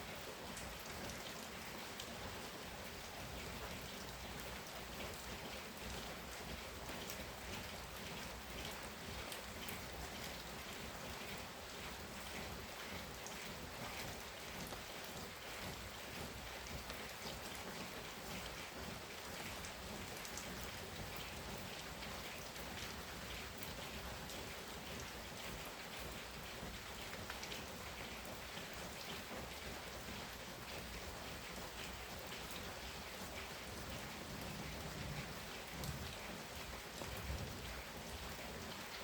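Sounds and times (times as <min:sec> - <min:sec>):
heavy rain falling: 0:00.0 - 0:39.0
raindrops ticking on surfaces: 0:00.0 - 0:39.0.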